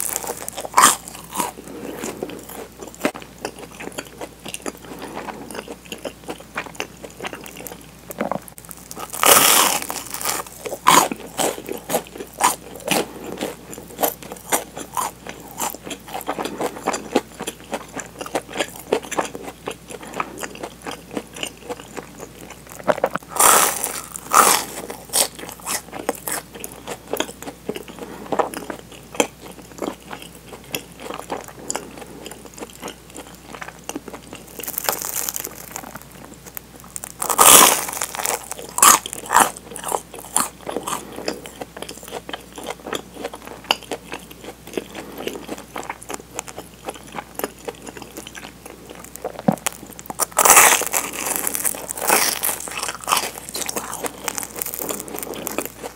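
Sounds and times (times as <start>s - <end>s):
crunchy bites into toast: 0.0s - 5.4s, 6.8s - 32.1s, 32.7s - 55.9s
crunchy chewing: 0.0s - 55.9s.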